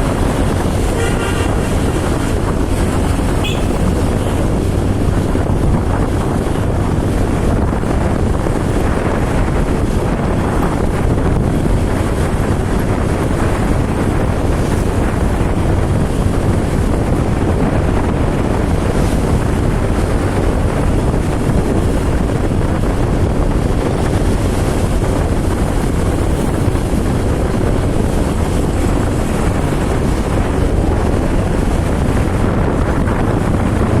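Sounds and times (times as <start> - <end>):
vehicle driving drone: 0.0 - 34.0
wind buffeting microphone: 0.0 - 34.0.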